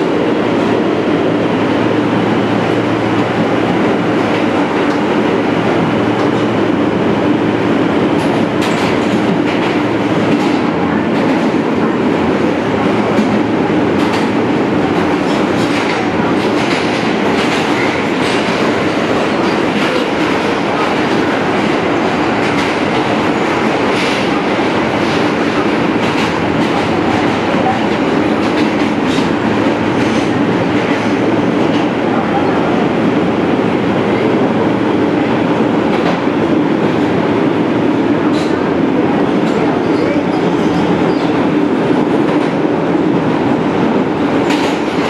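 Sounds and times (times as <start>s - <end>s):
subway wheels rumbling on rail: 0.0s - 45.0s.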